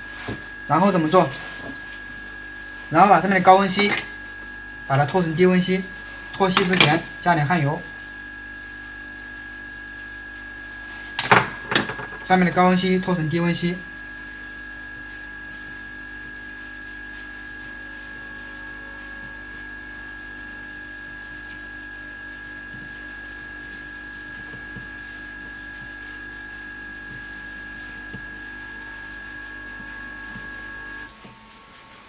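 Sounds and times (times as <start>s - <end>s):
hot air gun fan whine: 0.0s - 32.0s.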